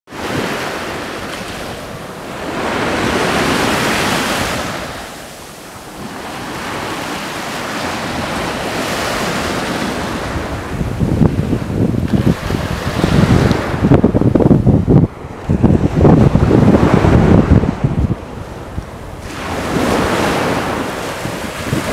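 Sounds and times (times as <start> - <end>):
small waves breaking on sand: 0.1 - 14.2, 15.1 - 21.9.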